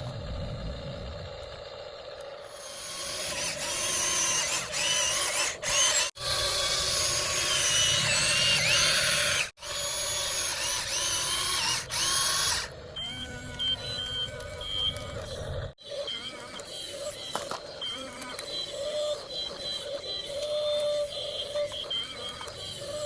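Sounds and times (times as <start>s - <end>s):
toy excavator motors whining: 1.3s - 23.0s.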